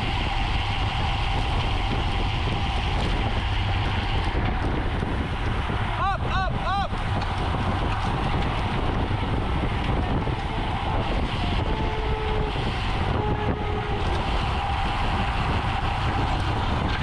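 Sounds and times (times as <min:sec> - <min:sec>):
tyres rumbling on road: 0:00.0 - 0:17.0
wind buffeting microphone: 0:00.0 - 0:17.0.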